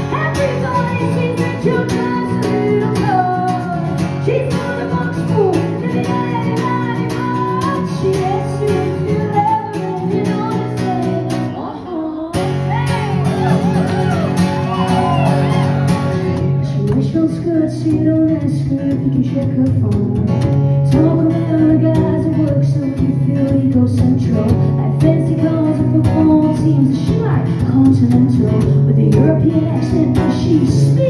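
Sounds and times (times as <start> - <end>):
woman singing: 0.0 - 15.6, 16.4 - 31.0
live band playing guitar song: 0.0 - 31.0.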